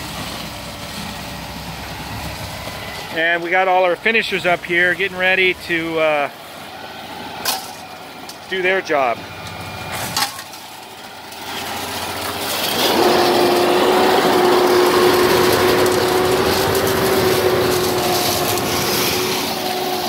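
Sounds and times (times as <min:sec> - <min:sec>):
concrete pump truck whine: 0:00.0 - 0:20.0.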